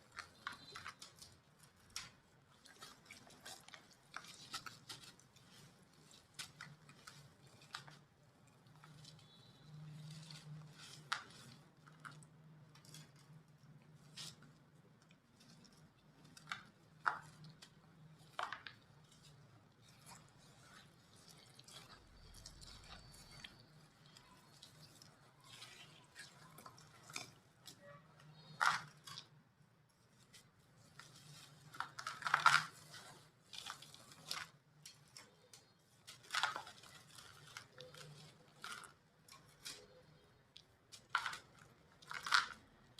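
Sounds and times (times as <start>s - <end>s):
cement chunks crunching: 0.0s - 29.4s, 30.2s - 42.9s.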